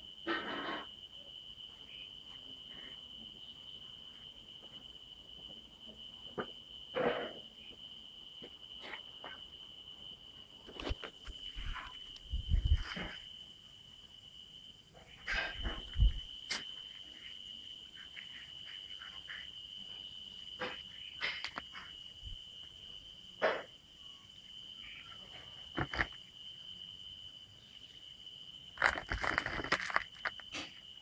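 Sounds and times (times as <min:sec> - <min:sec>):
crickets trilling: 0:00.0 - 0:31.0.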